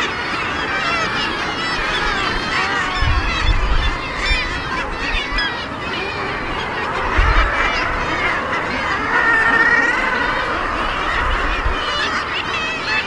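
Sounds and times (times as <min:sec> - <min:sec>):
seabirds calling: 0:00.0 - 0:13.0.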